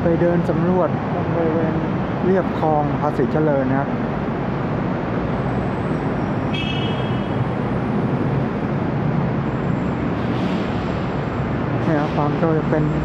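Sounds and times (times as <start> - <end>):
city road traffic: 0.0 - 13.0.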